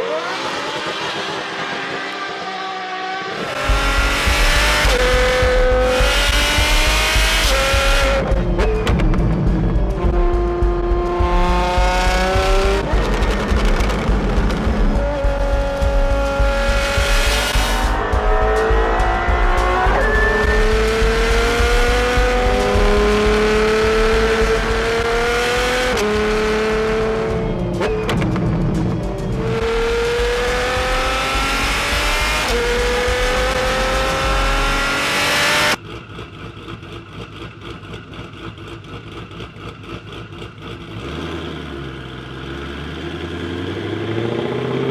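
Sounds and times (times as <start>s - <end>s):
car engine accelerating hard: 0.0s - 44.9s.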